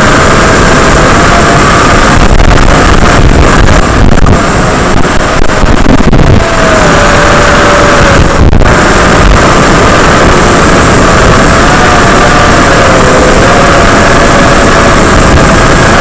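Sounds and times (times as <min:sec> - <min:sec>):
drone motors roaring and whining: 0:00.0 - 0:16.0.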